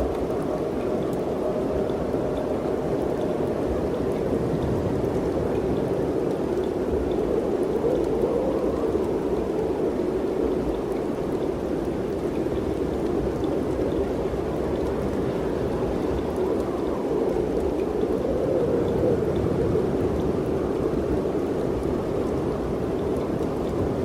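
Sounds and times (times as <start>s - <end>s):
wind blowing: 0.0s - 24.0s.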